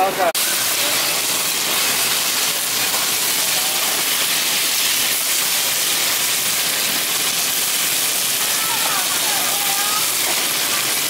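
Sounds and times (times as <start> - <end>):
chicken sizzling on a griddle: 0.0 - 11.0.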